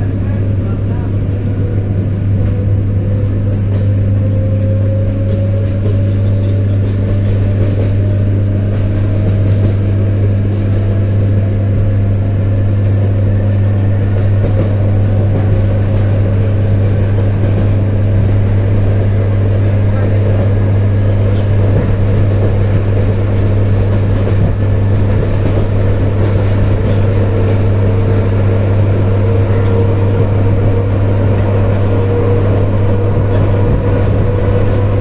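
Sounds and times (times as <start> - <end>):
deep electrical hum of train: 0.0 - 35.0
rising train motor whine: 0.0 - 35.0.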